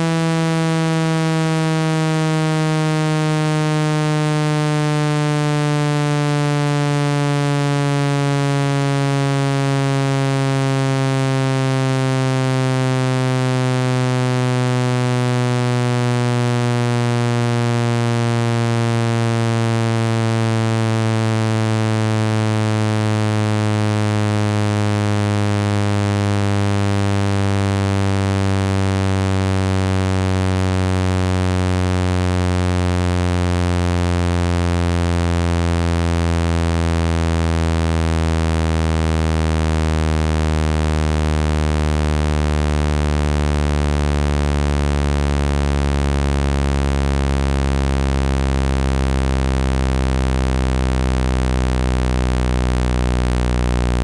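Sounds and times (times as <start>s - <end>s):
low buzzy tone sliding downward: 0.0s - 54.0s.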